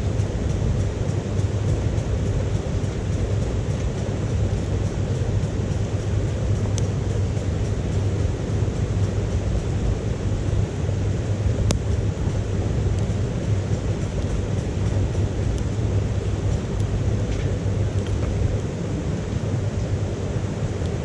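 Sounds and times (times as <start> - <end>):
fire low rumble: 0.0 - 21.0
wood crackling: 0.2 - 21.0.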